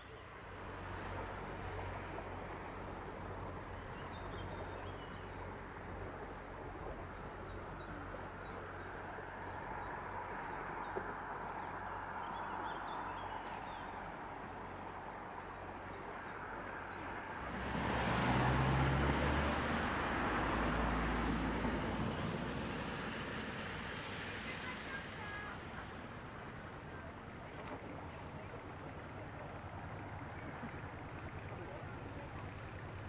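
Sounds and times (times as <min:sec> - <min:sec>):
motor boat engine hum: 0:00.0 - 0:33.0.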